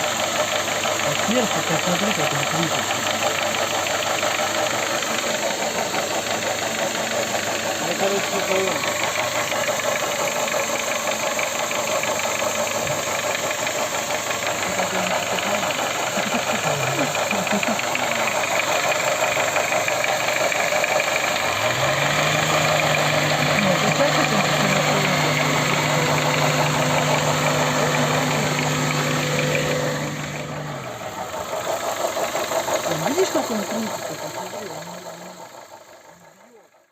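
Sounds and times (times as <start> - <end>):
engine running with rapid knocking: 0.0 - 36.9.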